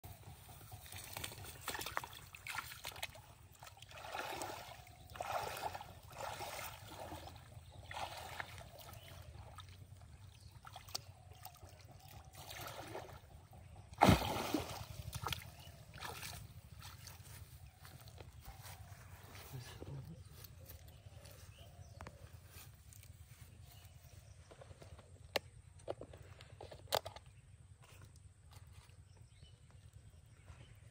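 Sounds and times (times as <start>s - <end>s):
pond water splashing and sloshing: 0.1s - 30.8s.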